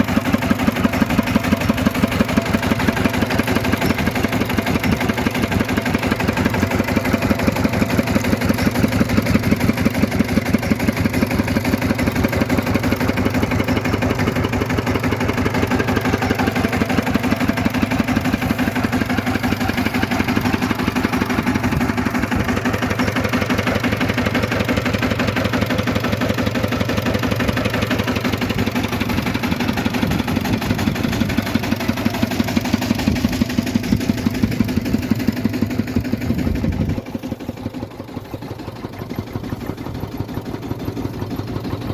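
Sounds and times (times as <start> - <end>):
rice machine motor running: 0.0 - 41.9.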